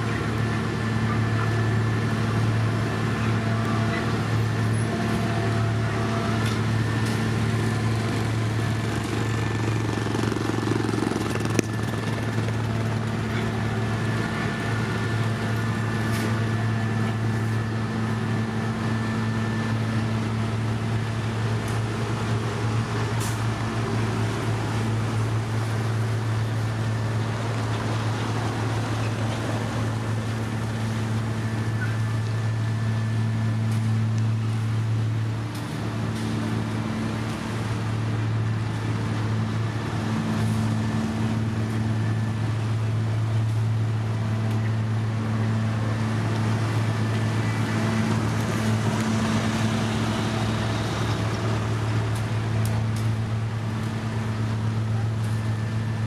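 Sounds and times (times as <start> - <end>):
heavy machinery diesel engine drone: 0.0 - 56.0.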